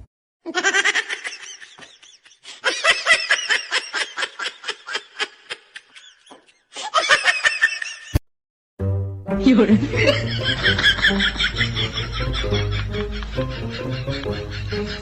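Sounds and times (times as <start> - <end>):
person laughing hard: 0.5 - 8.2, 9.8 - 15.0.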